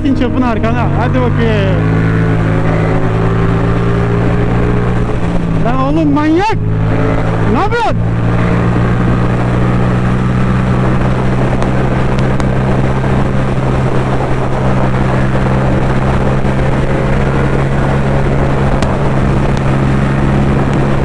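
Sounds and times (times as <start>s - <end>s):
motorcycle engine cruising: 0.0s - 21.0s
wind noise on microphone: 0.0s - 21.0s.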